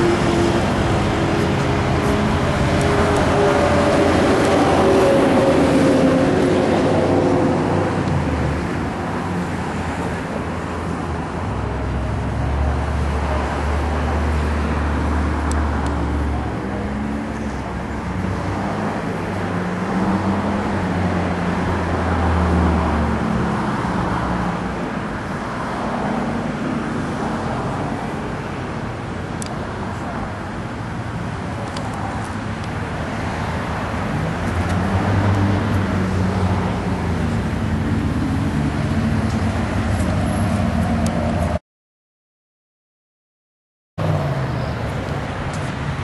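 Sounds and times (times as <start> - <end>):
vehicle engines humming: 0.0 - 41.6, 44.0 - 46.0.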